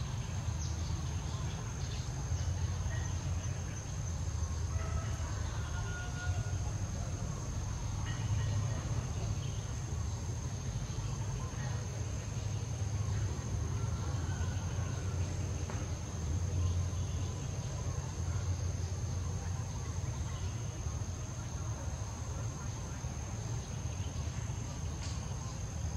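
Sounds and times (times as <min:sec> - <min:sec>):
constant low rumble: 0:00.0 - 0:25.9
insects droning: 0:00.0 - 0:25.9.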